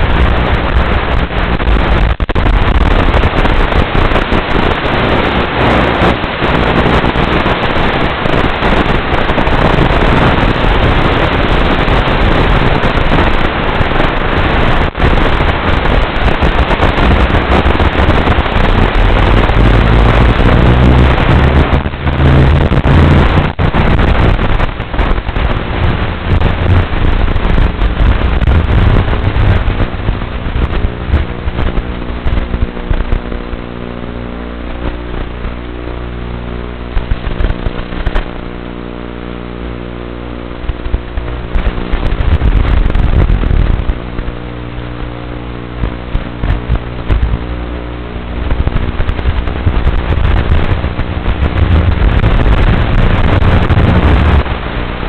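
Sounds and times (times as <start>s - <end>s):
harsh video transmitter static: 0.0s - 55.0s
steady buzzing hum: 0.0s - 55.0s.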